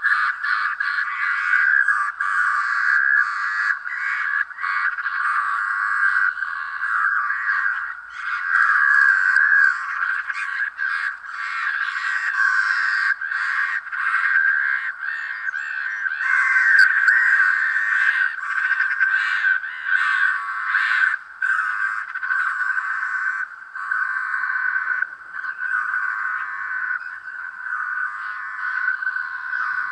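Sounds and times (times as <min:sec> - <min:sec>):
chorus of animal calls: 0:00.0 - 0:29.9.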